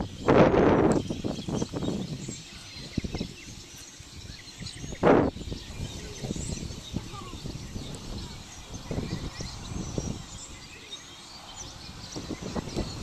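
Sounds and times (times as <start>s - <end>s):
faint outdoor background: 0.0s - 13.0s
wind buffeting microphone: 0.0s - 13.0s.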